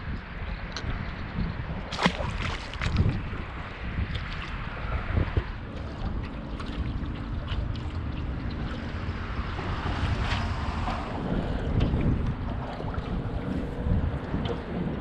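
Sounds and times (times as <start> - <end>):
wind buffeting microphone: 0.0 - 15.0
water lapping at boat: 0.1 - 15.0.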